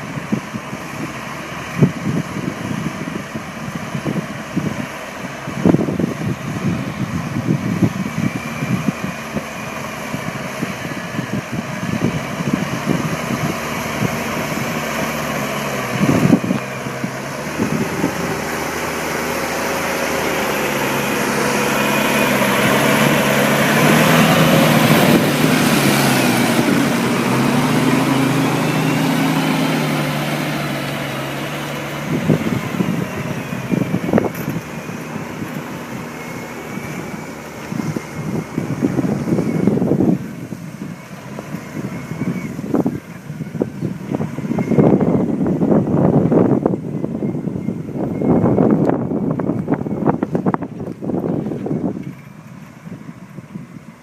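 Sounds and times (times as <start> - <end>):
tractor engine running: 0.0 - 54.0
wind buffeting microphone: 0.0 - 54.0.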